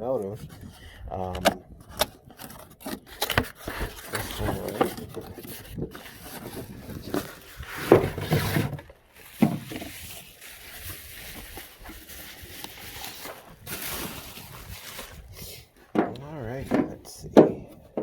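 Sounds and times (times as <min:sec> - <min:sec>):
storage box and packaging rustling: 0:00.3 - 0:18.0.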